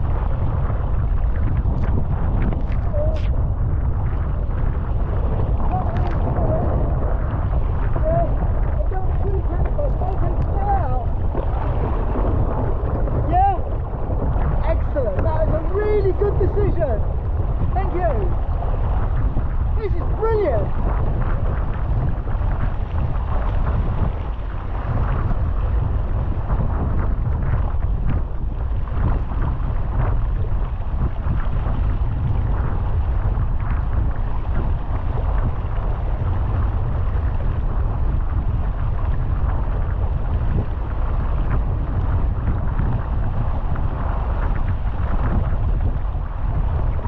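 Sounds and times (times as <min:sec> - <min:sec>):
boat noise: 0:00.0 - 0:47.0
water rushing: 0:00.0 - 0:47.0
wind buffeting microphone: 0:00.0 - 0:47.0.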